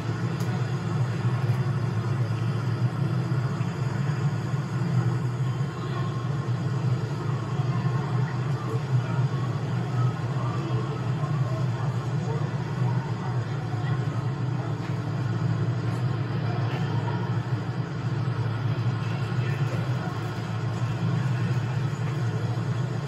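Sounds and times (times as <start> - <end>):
city street rumble: 0.0 - 23.0.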